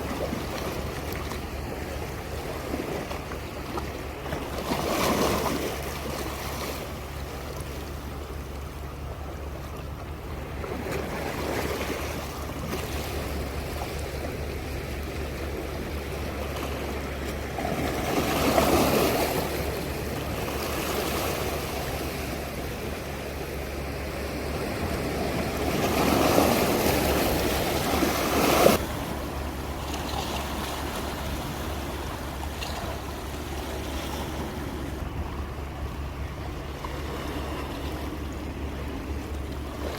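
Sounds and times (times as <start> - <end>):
sea waves breaking on shore: 0.0 - 39.9
steady low rumble: 5.8 - 39.9.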